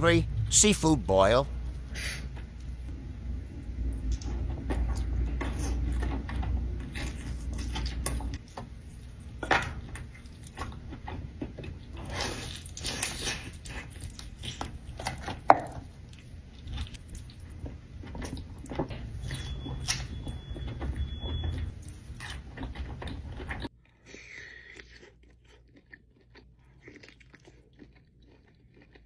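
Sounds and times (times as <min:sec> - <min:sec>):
wet chewing: 0:03.9 - 0:29.0.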